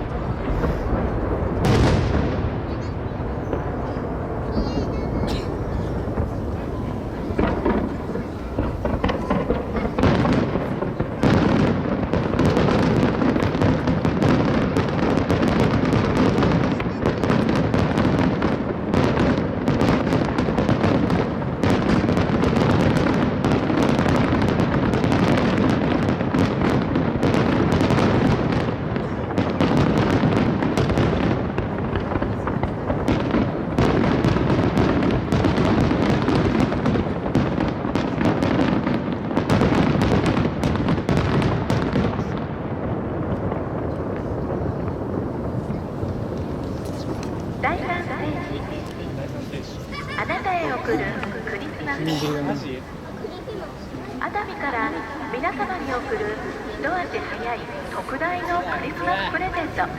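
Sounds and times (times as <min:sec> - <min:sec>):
fireworks bursts and crackling: 0:00.0 - 0:59.9.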